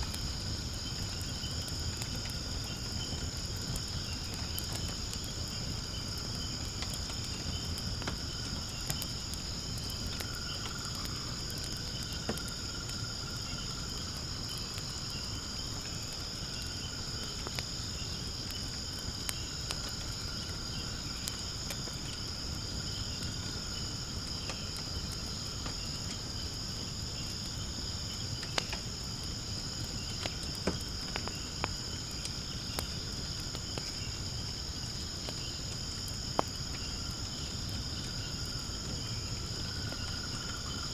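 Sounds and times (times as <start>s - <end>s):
firewood crackling and popping: 0.0s - 40.9s
insects chirring: 0.0s - 40.9s.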